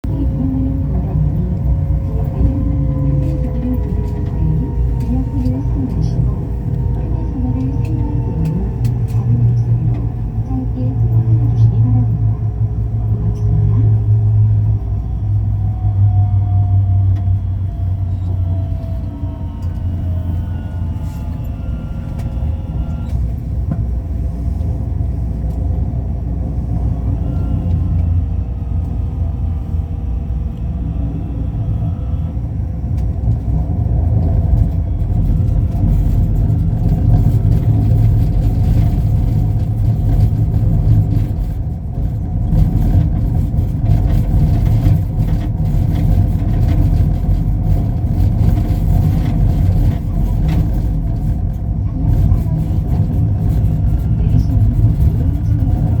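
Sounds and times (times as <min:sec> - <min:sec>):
train low rumble: 0:00.0 - 0:56.0
faint whining tones: 0:00.1 - 0:56.0.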